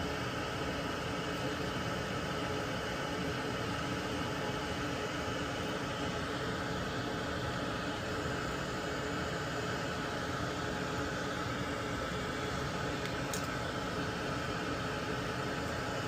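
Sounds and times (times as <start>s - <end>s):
small fan whirring: 0.0s - 16.0s.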